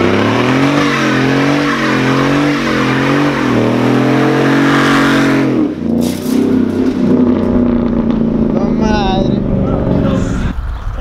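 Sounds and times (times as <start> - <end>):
pickup truck engine revving: 0.0 - 11.0.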